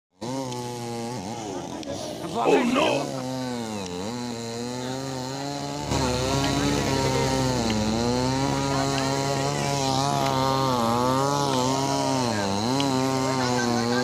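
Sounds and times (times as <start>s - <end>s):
chainsaw cutting tree: 0.2s - 14.0s.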